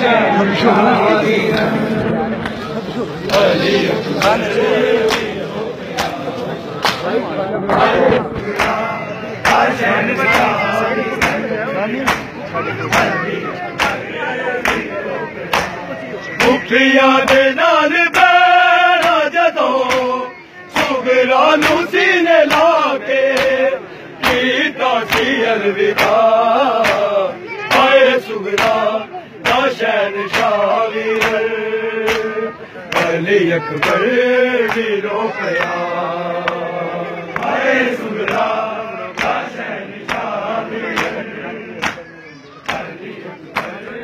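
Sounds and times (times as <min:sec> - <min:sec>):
crowd of men responding: 0:00.0 - 0:44.0
hands striking chests rhythmically: 0:02.4 - 0:44.0.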